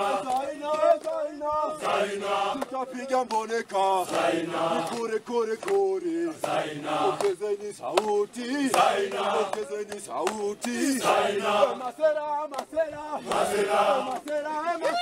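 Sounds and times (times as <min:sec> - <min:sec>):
men singing in chorus: 0:00.0 - 0:15.0
hand claps: 0:00.1 - 0:01.3, 0:02.5 - 0:11.1, 0:11.7 - 0:15.0.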